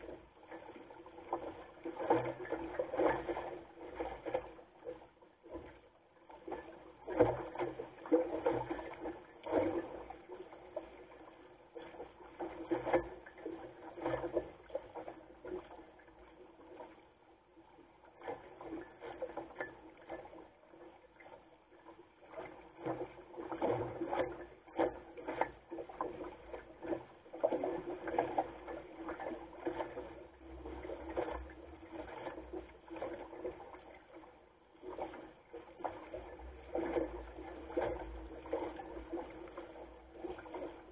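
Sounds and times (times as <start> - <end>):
water splashing along a hull: 0.0 - 40.9.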